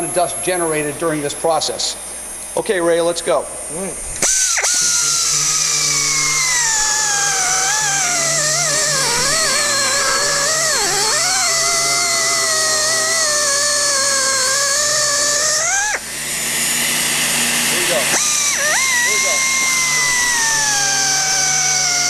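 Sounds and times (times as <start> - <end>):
air grinders whining: 0.0 - 22.0.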